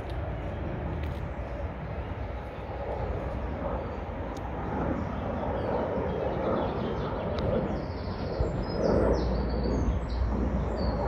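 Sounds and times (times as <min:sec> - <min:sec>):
steady rumbling noise: 0:00.0 - 0:11.0.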